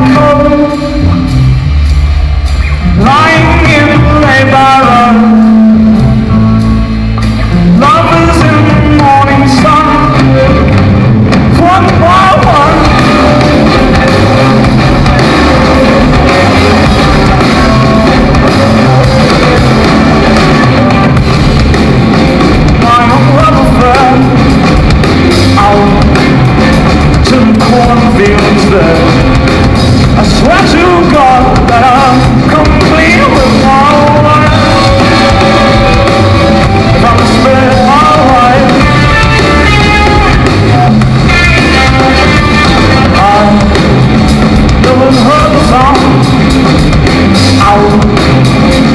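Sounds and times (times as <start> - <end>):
drum kit: 0.0 - 48.9
electric guitars: 0.0 - 48.9
live rock band playing: 0.0 - 48.9.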